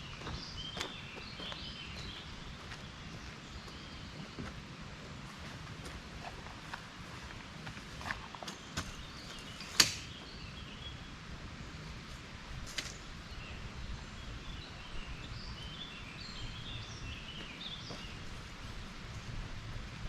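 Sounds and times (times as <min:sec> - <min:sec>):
small birds chirping: 0:00.0 - 0:11.2, 0:12.8 - 0:19.4.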